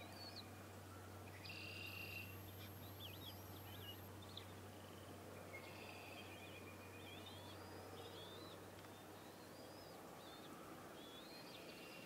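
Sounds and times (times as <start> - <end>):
low electrical hum: 0.0 - 12.0
songbird song: 0.0 - 12.0.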